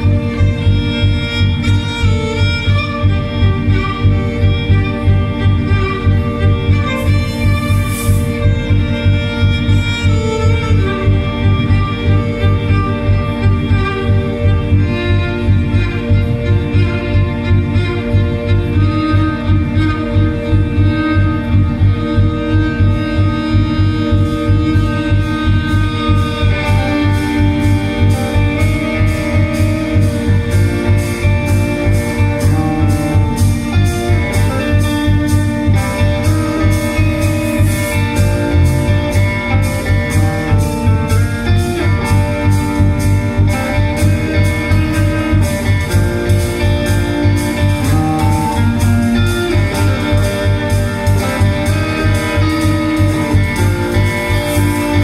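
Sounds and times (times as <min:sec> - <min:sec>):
band playing guitar music: 0:00.0 - 0:55.0.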